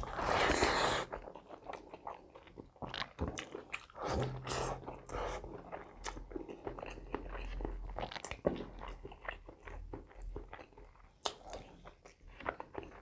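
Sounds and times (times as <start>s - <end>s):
person chewing with wet smacks: 1.0s - 13.0s.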